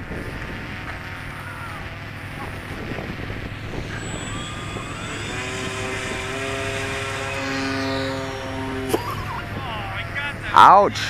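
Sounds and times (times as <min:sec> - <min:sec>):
model airplane motor whine: 0:00.0 - 0:11.0.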